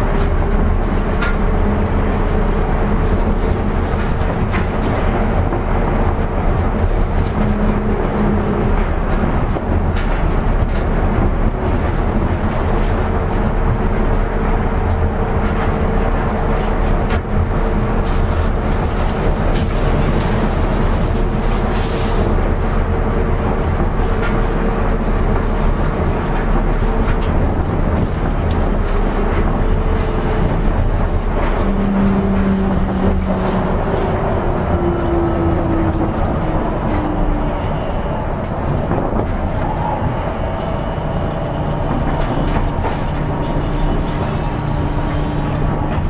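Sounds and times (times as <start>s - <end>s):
train ride rumble and hiss: 0.0s - 46.0s.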